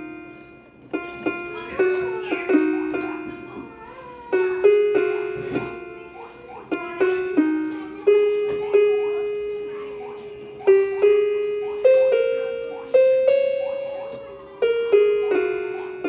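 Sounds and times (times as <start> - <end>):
electronic keyboard harp melody: 0.0 - 16.0.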